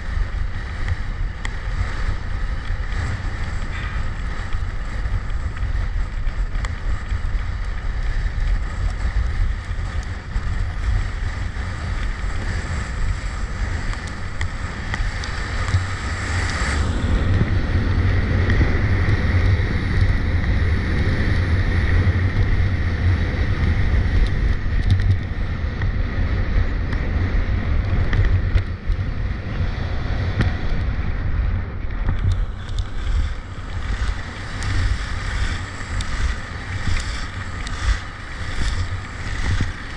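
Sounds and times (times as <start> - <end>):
skis sliding over snow: 0.0 - 39.9
wind buffeting microphone: 0.0 - 39.9.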